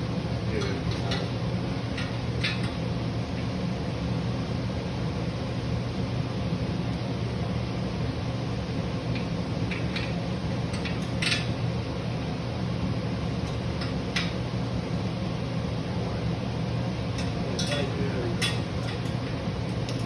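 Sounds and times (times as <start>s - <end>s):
fan humming: 0.0s - 20.0s.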